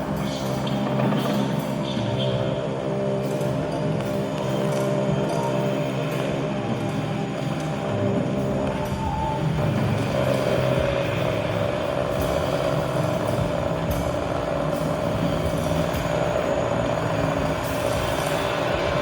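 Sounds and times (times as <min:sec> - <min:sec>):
noisy experimental drone: 0:00.0 - 0:19.0
steady mid-pitched tone: 0:00.0 - 0:19.0.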